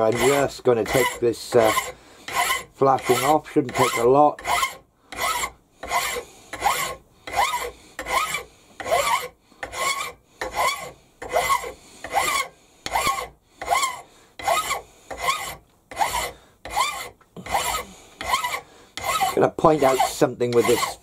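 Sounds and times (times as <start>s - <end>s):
file squealing: 0.0s - 21.0s
hand file rasping on metal: 0.0s - 21.0s.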